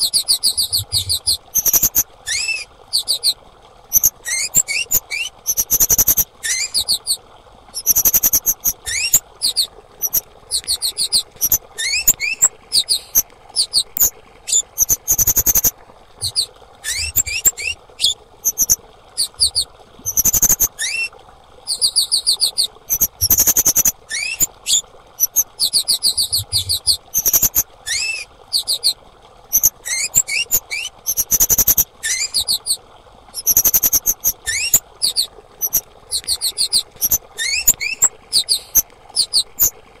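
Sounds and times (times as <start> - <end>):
bird chirping high-pitched: 0.0 - 7.2, 7.8 - 21.1, 21.7 - 32.8, 33.4 - 39.7.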